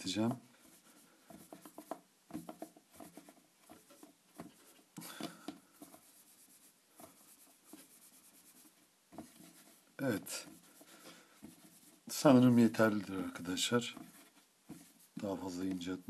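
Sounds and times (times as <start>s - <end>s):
play dough rolled on tabletop: 0.0s - 16.0s.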